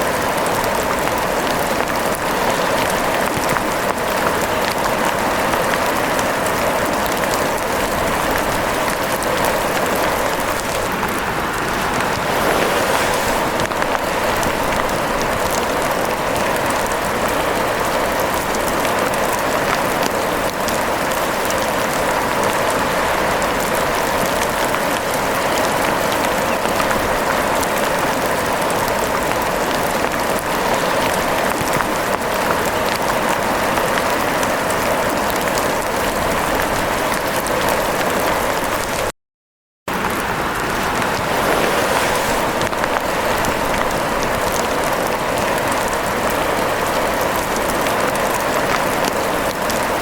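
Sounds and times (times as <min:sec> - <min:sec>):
heavy rain pattering: 0:00.0 - 0:39.1, 0:39.9 - 0:50.0.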